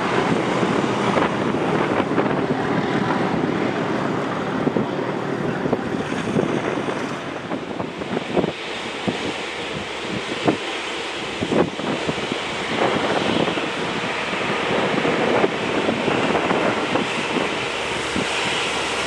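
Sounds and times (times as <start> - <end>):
diesel locomotive moving away: 0.0 - 19.0
wind buffeting knocks: 0.0 - 19.0
wind rushing on microphone: 0.0 - 19.0.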